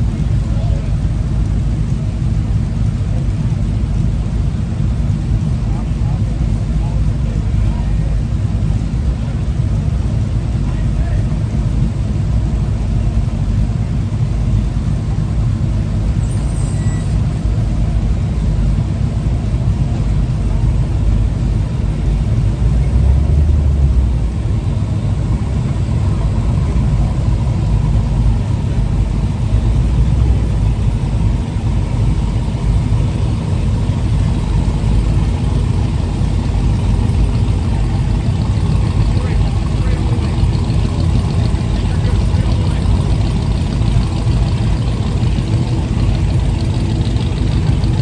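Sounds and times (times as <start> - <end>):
truck engines rumbling: 0.0 - 48.0.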